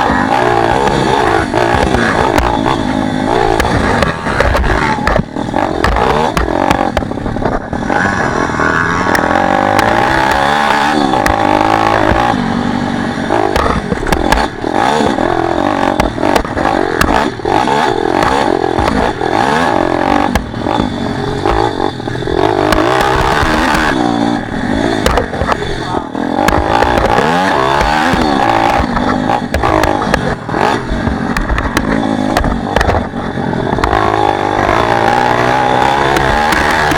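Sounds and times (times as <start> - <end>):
bike knocks and rattles: 0.0 - 7.9, 9.1 - 12.4, 13.2 - 36.9
small motorbike engine revving: 0.0 - 36.9.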